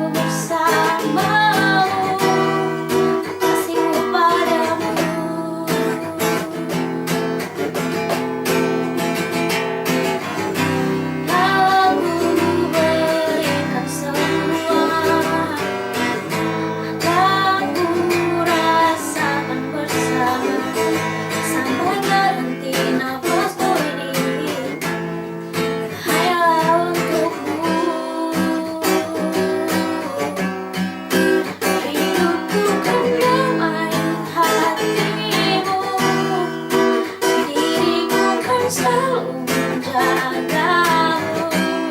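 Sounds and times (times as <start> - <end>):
person singing: 0.0 - 7.5, 10.2 - 25.0, 25.8 - 41.9
strummed acoustic guitar: 0.0 - 41.9.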